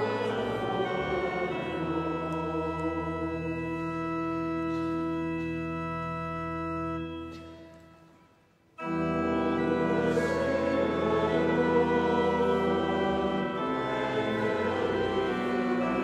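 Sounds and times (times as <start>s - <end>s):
church organ chord: 0.0s - 16.0s.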